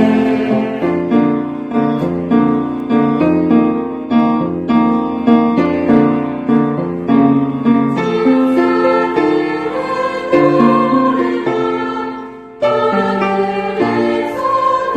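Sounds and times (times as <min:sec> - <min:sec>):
piano repeated chords: 0:00.0 - 0:14.9.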